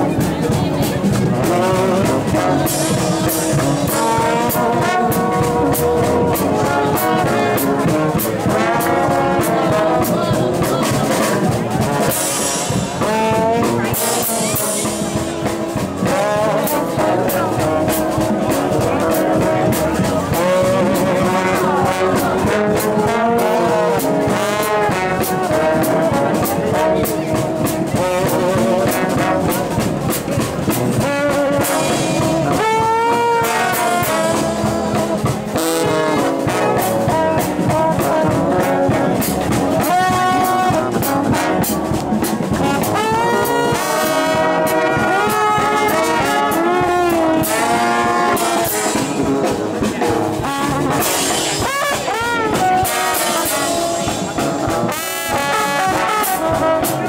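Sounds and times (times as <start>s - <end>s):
drum kit beat: 0.0s - 57.0s
sousaphone bass line: 0.0s - 57.0s
trombones playing a tune: 0.0s - 57.0s.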